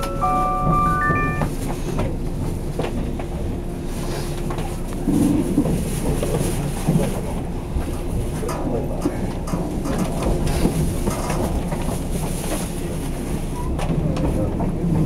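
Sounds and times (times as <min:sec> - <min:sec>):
train running low rumble: 0:00.0 - 0:15.0.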